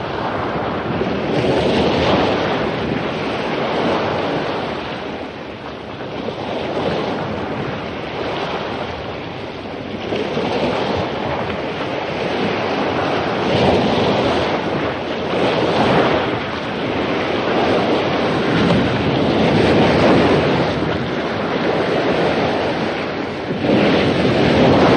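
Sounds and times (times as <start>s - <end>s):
ocean waves crashing on beach: 0.0s - 24.9s.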